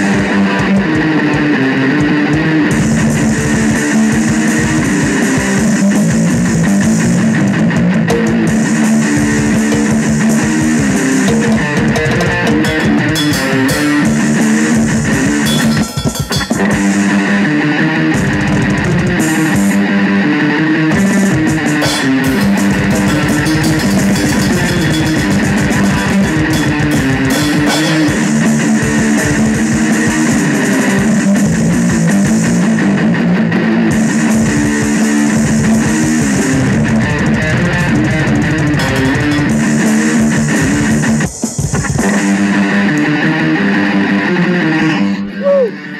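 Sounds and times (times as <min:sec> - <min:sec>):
drum kit with cymbal hits: 0:00.0 - 0:19.8, 0:20.9 - 0:33.1, 0:33.8 - 0:43.2
distorted electric guitar riff: 0:00.0 - 0:45.9
heavy metal song: 0:00.0 - 0:45.9.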